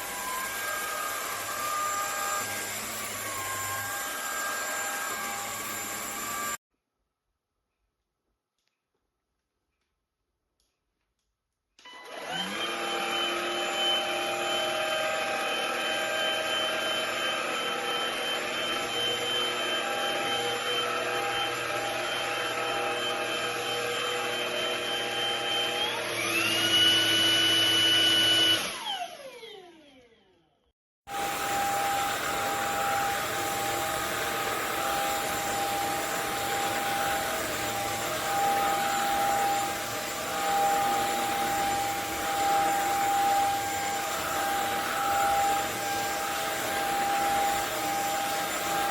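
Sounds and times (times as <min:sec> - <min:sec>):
stick vacuum motor whining: 0:00.0 - 0:06.6, 0:11.8 - 0:30.3, 0:31.1 - 0:48.9.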